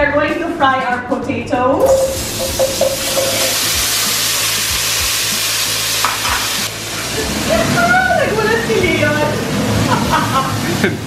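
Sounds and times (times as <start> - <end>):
potatoes sizzling in hot oil: 1.8 - 11.0.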